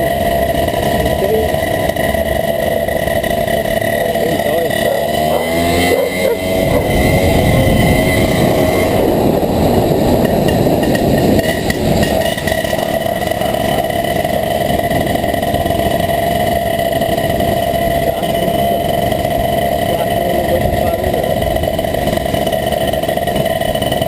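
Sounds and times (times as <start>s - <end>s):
moped engine running: 0.0s - 24.0s.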